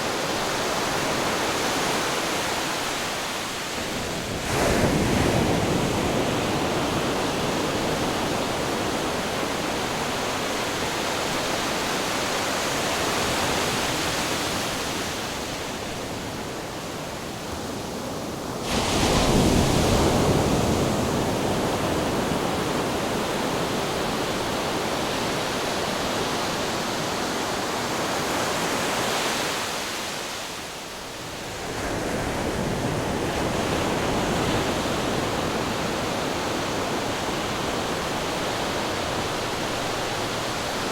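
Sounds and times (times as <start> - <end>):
ocean waves washing: 0.0 - 30.4, 31.1 - 40.9
wind: 0.0 - 40.9.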